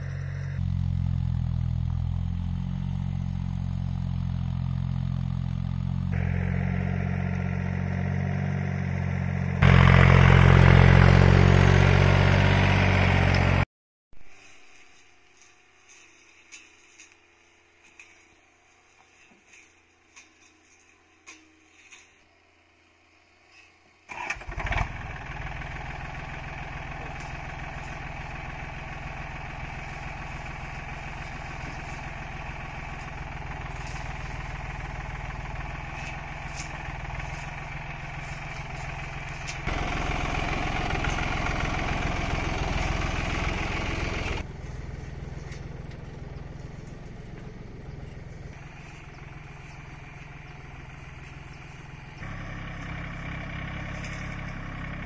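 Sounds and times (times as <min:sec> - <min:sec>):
tractor diesel engine running: 0:00.0 - 0:13.6, 0:14.3 - 0:55.0.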